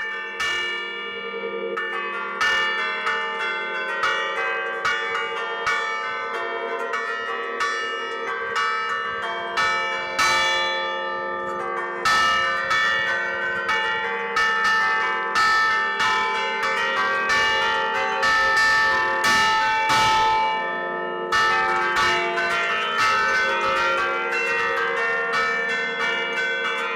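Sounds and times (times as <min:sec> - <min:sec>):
church bells playing a tune: 0:00.0 - 0:26.9.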